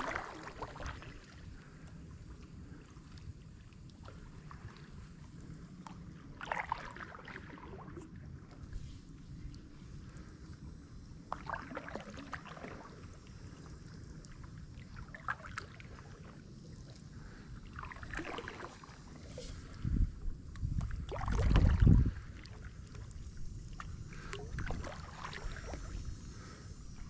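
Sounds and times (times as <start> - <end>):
paddle splashing in water: 0.0 - 5.1, 5.8 - 9.7, 11.3 - 19.9, 20.6 - 26.5
low rumble on microphone: 0.0 - 27.0.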